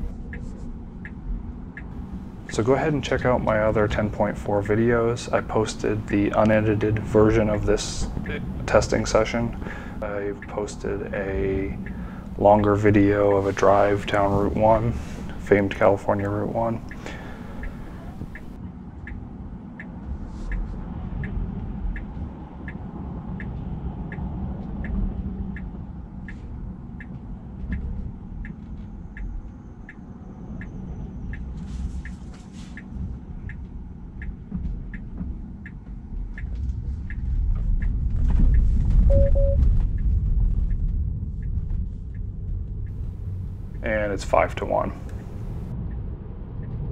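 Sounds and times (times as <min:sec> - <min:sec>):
car engine rumble: 0:00.0 - 0:29.2, 0:31.2 - 0:46.9
turn signal ticking: 0:00.0 - 0:46.0
low hum of passing traffic: 0:00.0 - 0:46.9.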